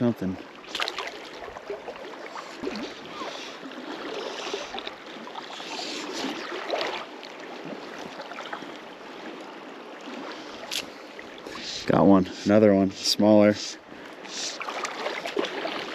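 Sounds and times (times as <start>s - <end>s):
river water rushing: 0.4s - 15.9s.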